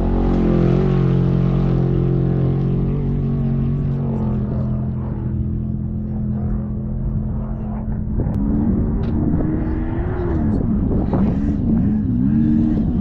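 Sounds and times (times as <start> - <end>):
engine revving or passing: 0.0 - 13.0
race vehicle engine running: 0.0 - 13.0.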